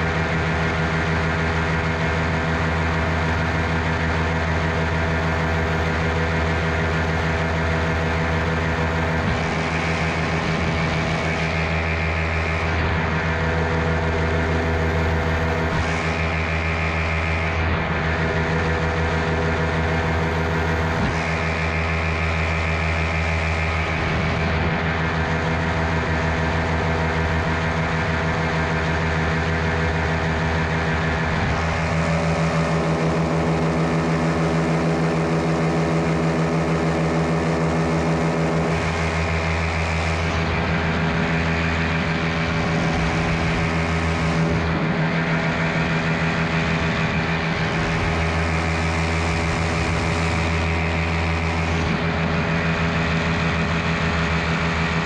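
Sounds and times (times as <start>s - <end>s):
paramotor engine and propeller: 0.0s - 55.0s.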